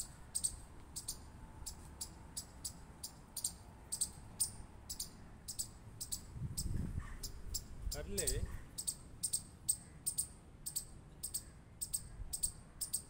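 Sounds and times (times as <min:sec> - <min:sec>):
chipmunk chip calls: 0:00.0 - 0:13.0.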